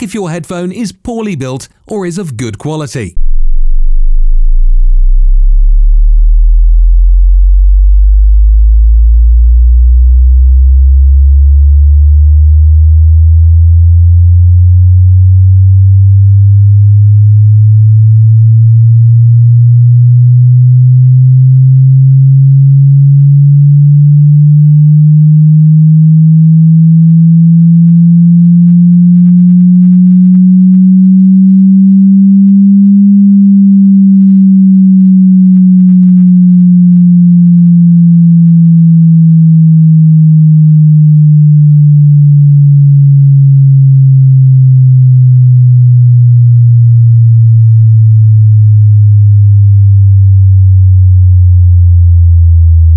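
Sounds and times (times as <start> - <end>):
sine sweep test tone: 3.2 - 52.9.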